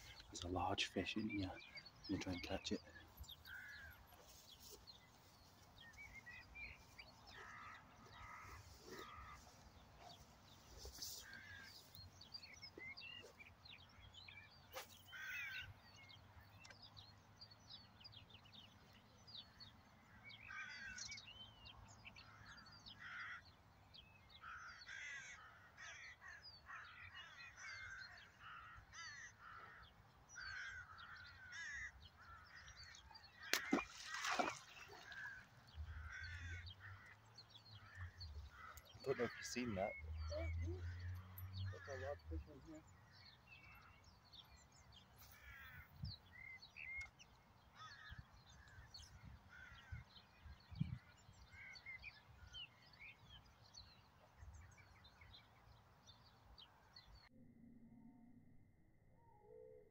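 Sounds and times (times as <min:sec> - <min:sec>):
birds calling: 0:00.0 - 0:57.3.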